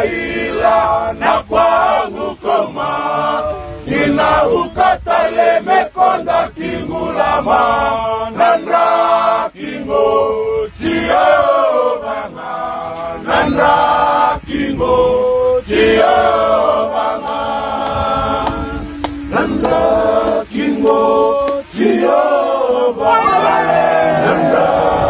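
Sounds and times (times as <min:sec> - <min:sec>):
men singing a hymn in harmony: 0:00.0 - 0:25.0.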